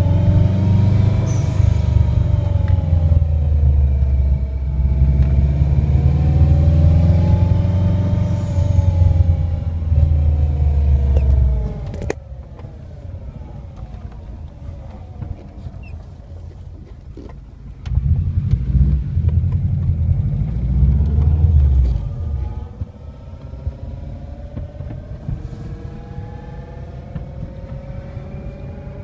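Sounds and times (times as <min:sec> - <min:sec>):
faint falling whining tones: 0:00.0 - 0:16.9, 0:19.9 - 0:29.0
loud low car rumble: 0:00.0 - 0:29.0.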